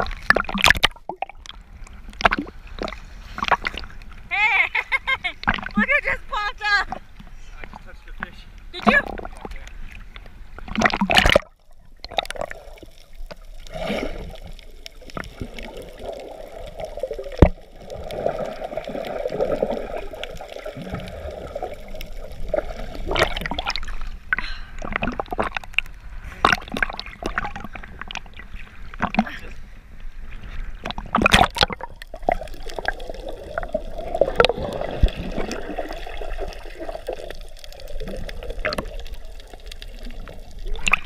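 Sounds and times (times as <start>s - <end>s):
seawater splashing: 0.0s - 41.0s.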